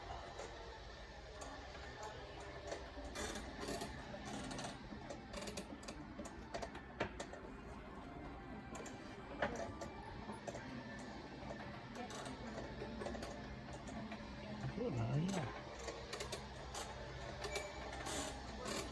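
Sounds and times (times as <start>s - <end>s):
store background noise: 0.0s - 18.9s.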